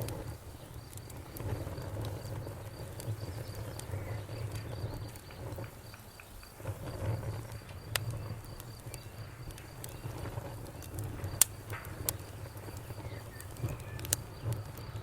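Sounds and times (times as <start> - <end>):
campfire crackling: 0.0 - 15.0
cricket chirping: 0.0 - 15.0.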